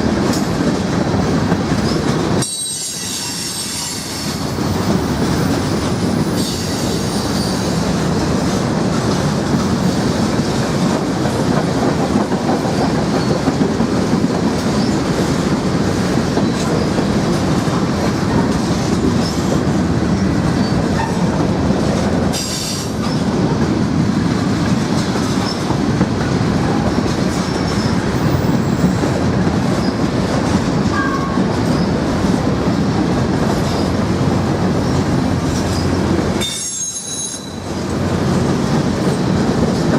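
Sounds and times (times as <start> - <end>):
train cars rolling on rails: 0.0 - 39.9.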